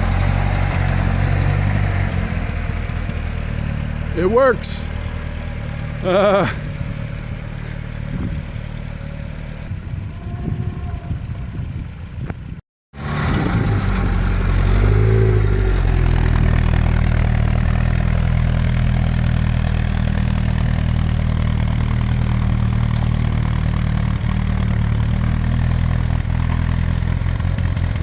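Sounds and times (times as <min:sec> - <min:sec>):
petrol engine running: 0:00.0 - 0:28.0.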